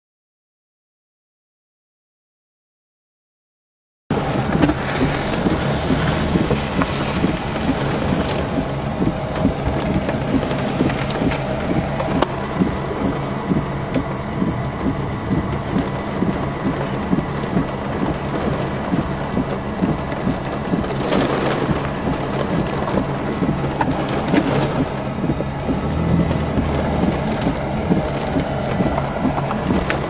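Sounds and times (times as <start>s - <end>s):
heavy rain pelting a car: 4.1s - 30.0s
low storm rumble: 4.1s - 30.0s.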